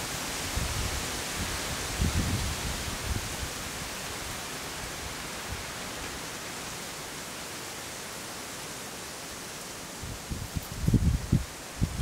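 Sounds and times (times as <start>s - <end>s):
wind rustling through trees: 0.0s - 12.0s.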